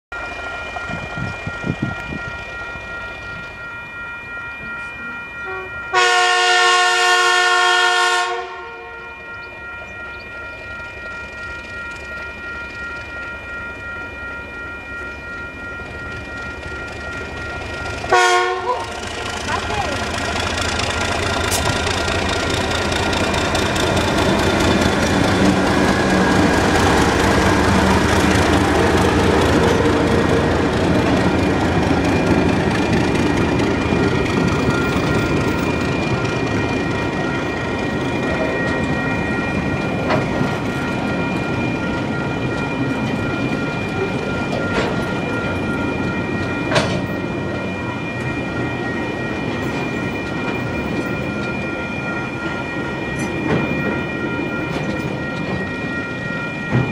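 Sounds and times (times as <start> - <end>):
diesel locomotive engines: 0.1 - 56.9.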